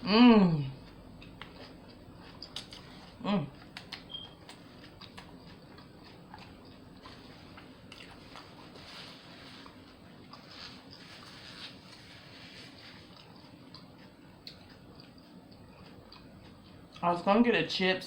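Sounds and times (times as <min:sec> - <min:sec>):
wet chewing: 0:00.6 - 0:17.1.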